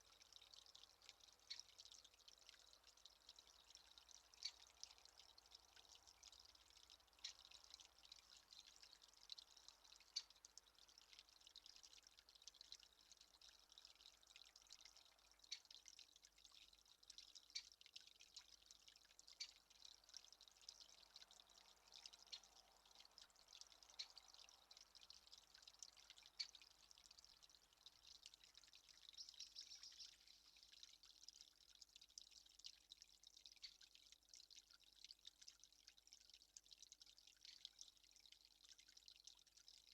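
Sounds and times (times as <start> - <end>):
soft ticks and crackles: 0.0 - 39.9.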